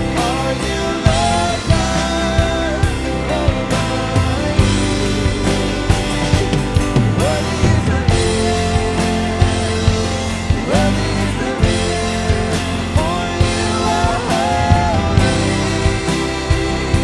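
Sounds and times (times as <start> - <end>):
drums keeping a steady beat: 0.0 - 17.0
live band playing: 0.0 - 17.0.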